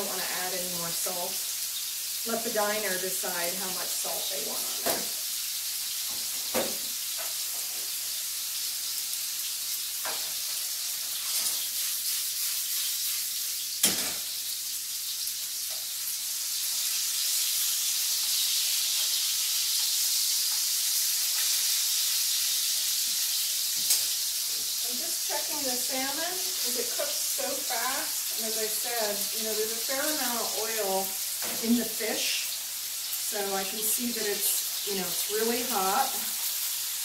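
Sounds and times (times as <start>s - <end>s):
fish sizzling in oil: 0.0s - 37.0s.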